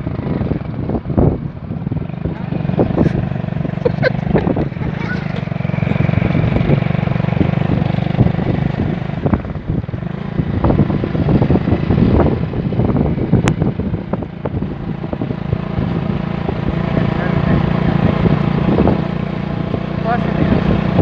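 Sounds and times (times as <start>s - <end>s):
vehicle engine running: 0.0s - 21.0s
wind rush and buffeting: 0.0s - 21.0s.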